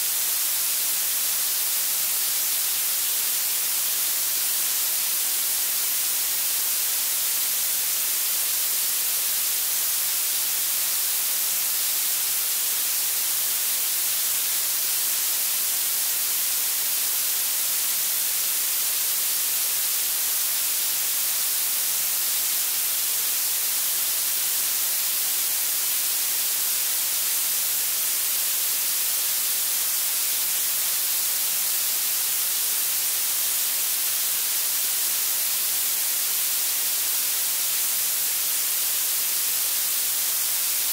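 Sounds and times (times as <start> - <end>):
bright steady hiss: 0.0 - 40.9.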